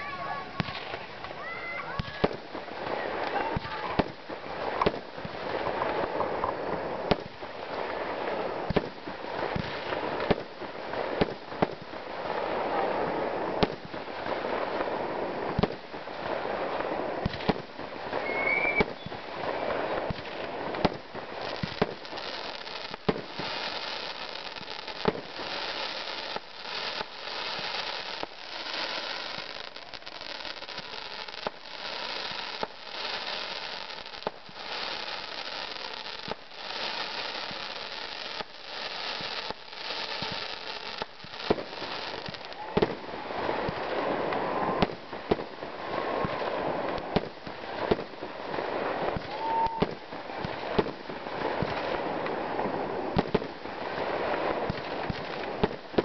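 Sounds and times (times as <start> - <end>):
fireworks crackling hiss: 0.0 - 56.0
fireworks sharp bangs: 0.0 - 56.0.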